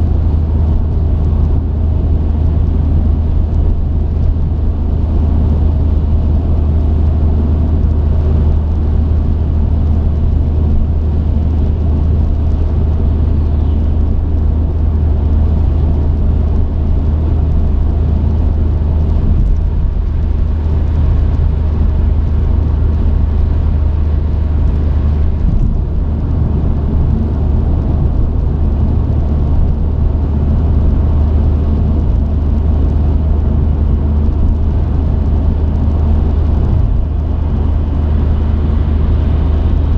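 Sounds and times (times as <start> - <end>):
truck engine drone: 0.0 - 39.9
tyres on road: 0.0 - 39.9.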